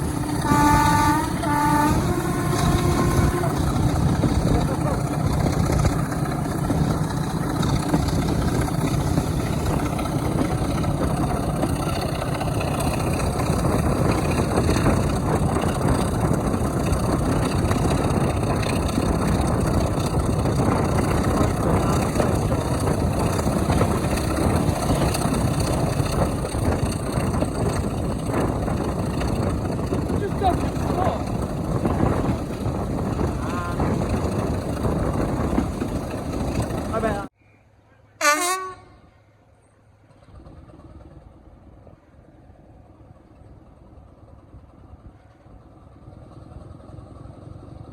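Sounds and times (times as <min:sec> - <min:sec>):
diesel locomotive engine running: 0:00.0 - 0:47.9.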